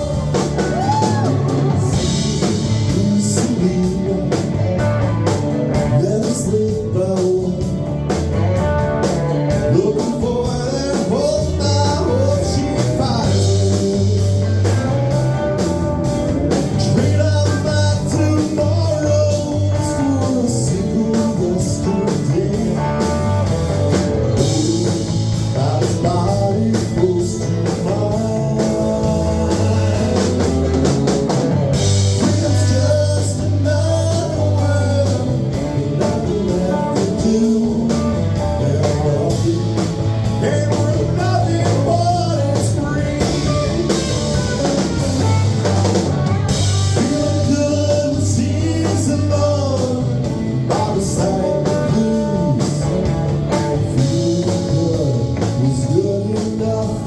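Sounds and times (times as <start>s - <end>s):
blues-rock band playing: 0.0s - 57.0s
person singing: 0.0s - 57.0s.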